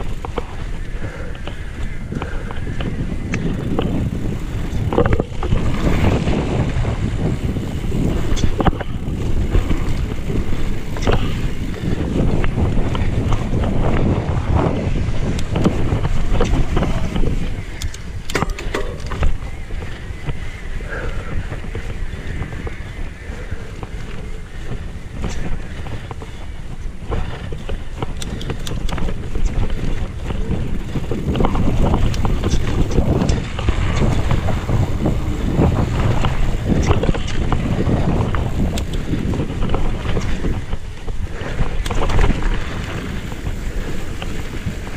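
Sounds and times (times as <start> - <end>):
bike knocks and rattles: 0.0 - 44.9
tyres rumbling on gravel: 0.0 - 44.9
wind buffeting microphone: 0.0 - 44.9.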